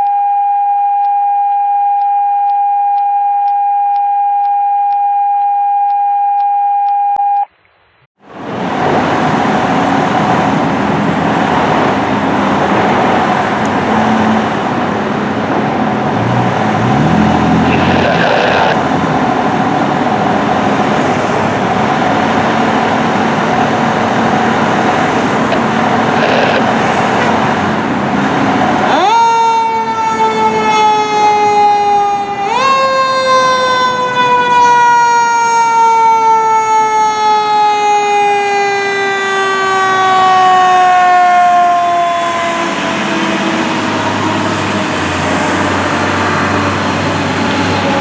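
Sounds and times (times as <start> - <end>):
fire truck rushing: 8.2 - 48.0.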